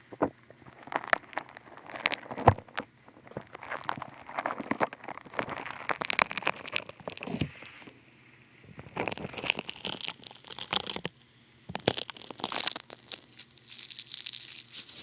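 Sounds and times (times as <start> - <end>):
foam crackling against microphone: 0.0 - 8.0, 8.7 - 11.1, 11.7 - 15.0.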